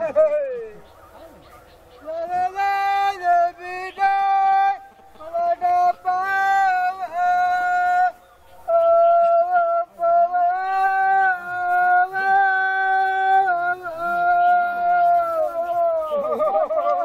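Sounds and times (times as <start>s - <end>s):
person singing a chant: 2.0s - 17.0s.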